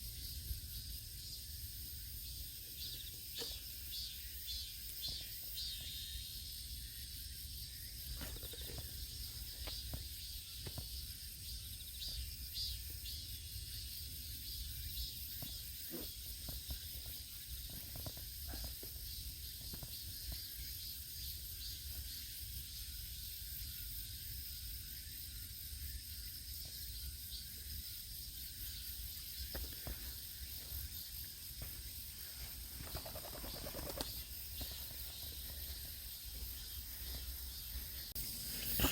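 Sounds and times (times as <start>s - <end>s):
insects chirping and trilling: 0.0s - 38.9s.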